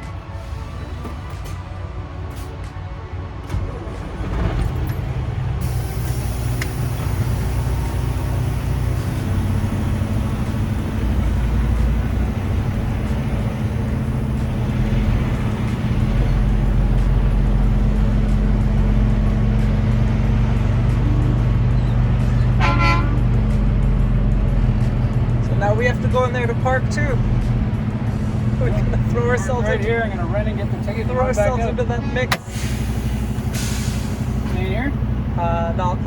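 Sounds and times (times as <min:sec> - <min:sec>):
diesel truck engine droning: 0:00.0 - 0:36.0.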